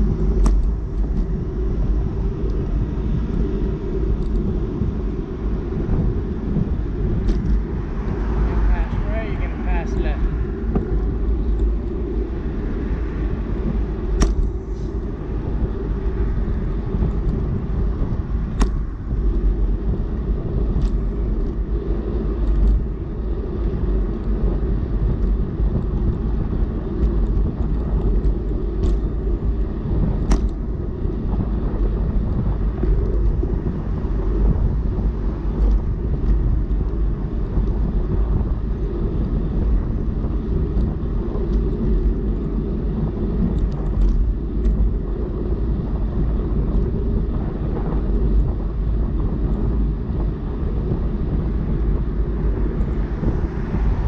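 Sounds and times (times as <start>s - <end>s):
bicycle road noise: 0.0s - 54.0s
wind rumble: 0.0s - 54.0s.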